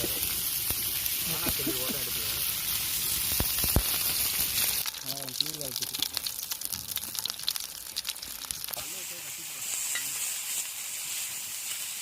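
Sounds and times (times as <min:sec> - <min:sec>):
chicken sizzling: 0:00.0 - 0:12.0.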